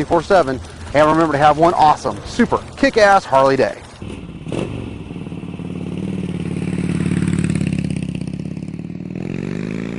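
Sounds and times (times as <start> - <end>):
motorcycle v-twin engine running: 0.0 - 9.7.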